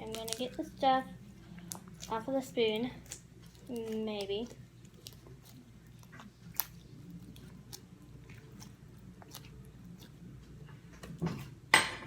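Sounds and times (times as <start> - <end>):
slime clicking and squelching: 0.0 - 11.2.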